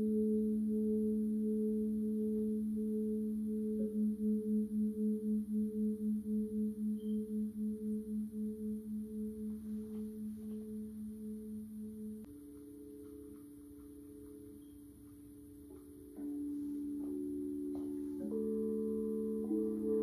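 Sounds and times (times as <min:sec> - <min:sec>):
pulsing tone: 0:00.0 - 0:20.0
sustained singing bowl tones: 0:00.0 - 0:20.0.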